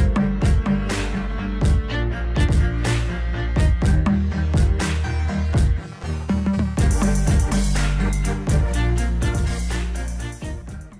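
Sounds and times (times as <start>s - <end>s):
music with strong bass and beat: 0.0s - 10.9s.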